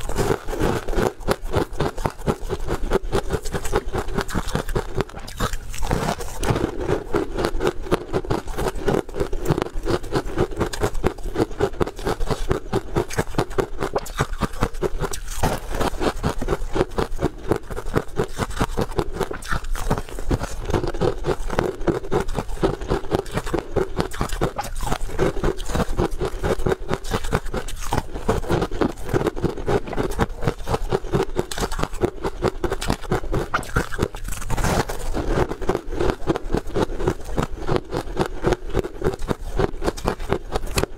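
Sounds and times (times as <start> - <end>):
crunching crisp snack: 0.0 - 40.9.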